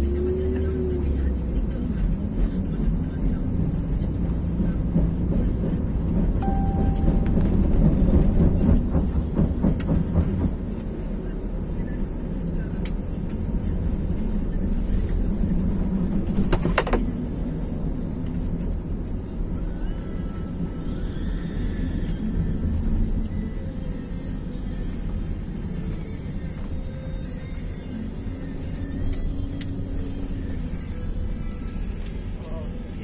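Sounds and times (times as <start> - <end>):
car engine and tyres rumble: 0.0 - 33.0.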